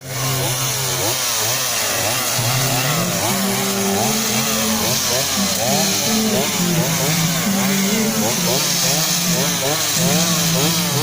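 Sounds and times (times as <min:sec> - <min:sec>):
chainsaw revving: 0:00.0 - 0:11.0.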